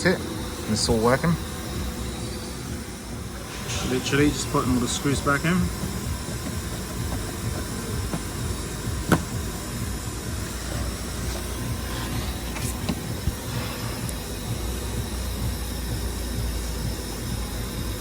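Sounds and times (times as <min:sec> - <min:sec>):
steady hiss and rumble: 0:00.0 - 0:18.0.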